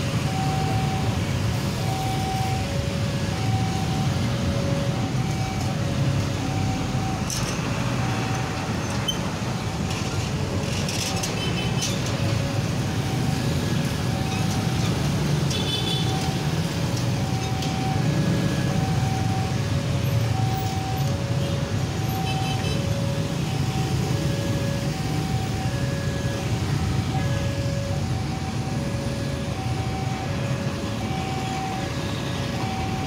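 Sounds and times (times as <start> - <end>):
level crossing alarm two-tone: 0.0 - 9.4, 11.0 - 33.0
road traffic: 0.0 - 33.0.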